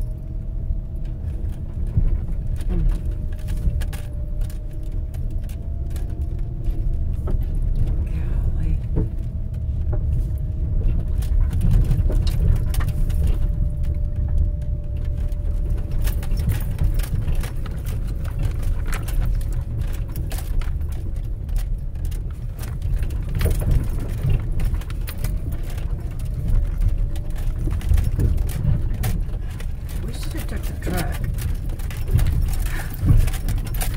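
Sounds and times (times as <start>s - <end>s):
tyres rumbling on dirt road: 0.0s - 33.9s
small clicks and cracks: 0.9s - 8.1s, 8.8s - 33.9s.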